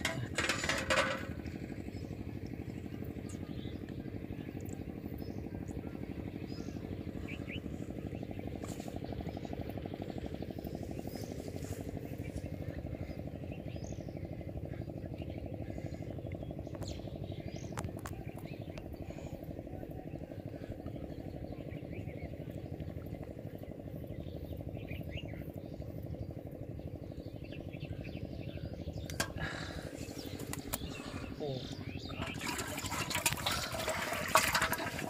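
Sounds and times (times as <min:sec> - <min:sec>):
engine droning: 0:00.0 - 0:35.0.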